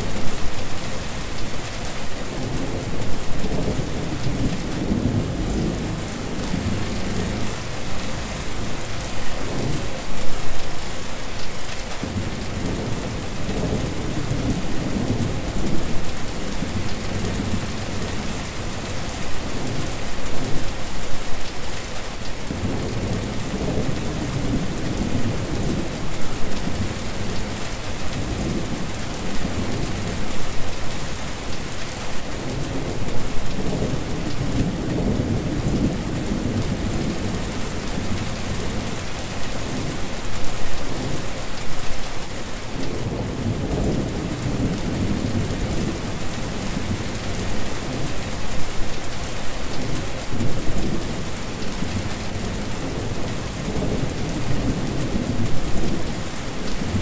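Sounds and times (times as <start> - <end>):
steady rain on wet surface: 0.0 - 57.0.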